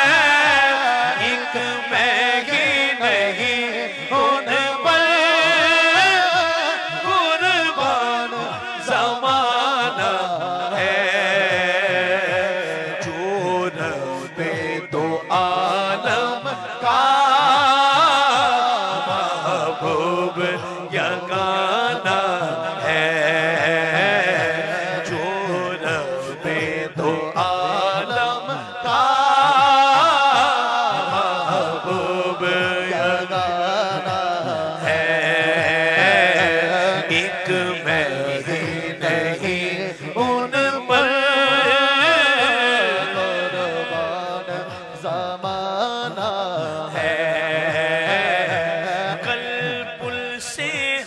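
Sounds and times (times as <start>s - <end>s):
solo voice singing: 0.0s - 51.0s.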